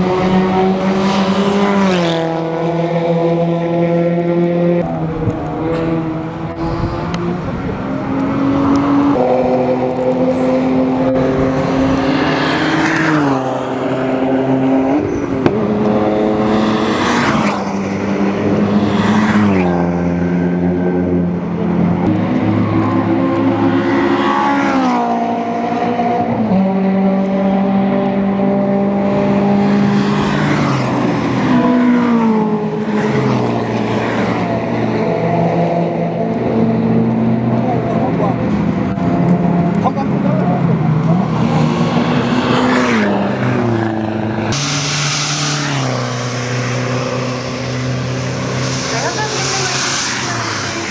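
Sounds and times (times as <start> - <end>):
racing car engines passing: 0.0 - 50.9.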